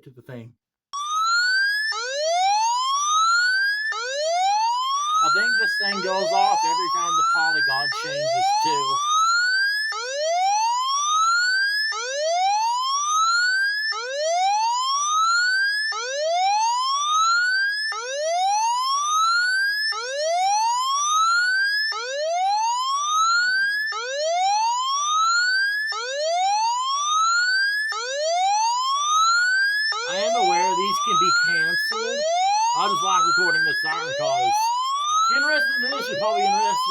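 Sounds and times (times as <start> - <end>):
electronic whoop siren: 1.0 - 36.9.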